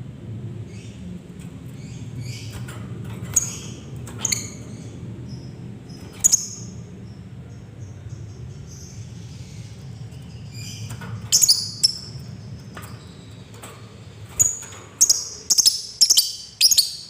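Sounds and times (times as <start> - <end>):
steady low hum: 0.0 - 17.0
lovebirds chirping: 1.7 - 17.0.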